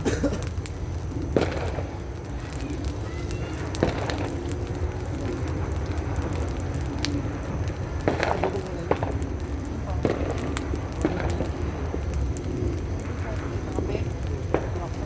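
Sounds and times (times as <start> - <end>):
firecrackers banging: 0.0 - 15.0
steady background rumble: 0.0 - 15.0.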